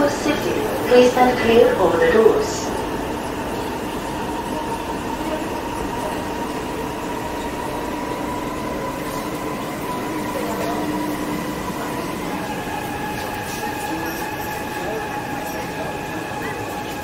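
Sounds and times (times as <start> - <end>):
metro train rumble: 0.0 - 17.0
steady whining tones: 0.0 - 17.0.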